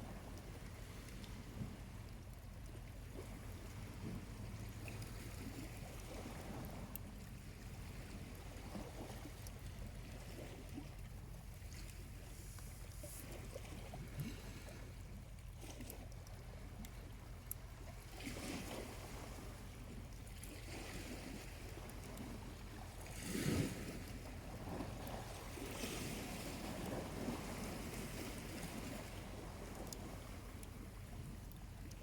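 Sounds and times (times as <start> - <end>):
small waves washing onto beach: 0.0 - 32.0.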